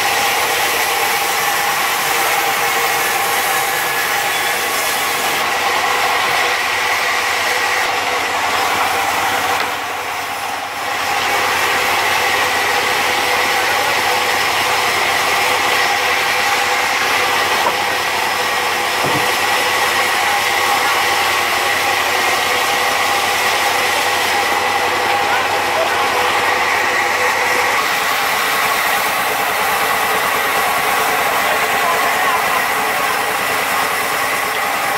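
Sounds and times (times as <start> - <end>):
band saw mill whining: 0.0 - 34.9.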